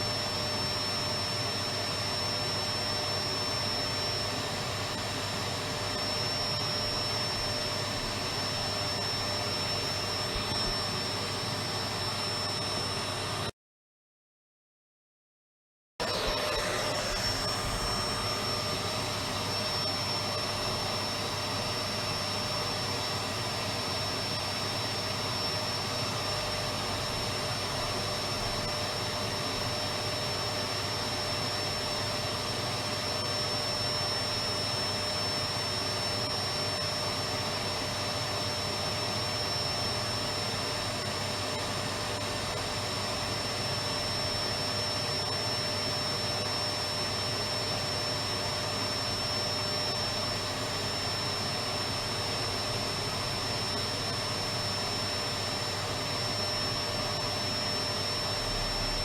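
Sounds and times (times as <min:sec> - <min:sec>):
vacuum cleaner running: 0:00.0 - 0:13.5, 0:16.0 - 0:59.0.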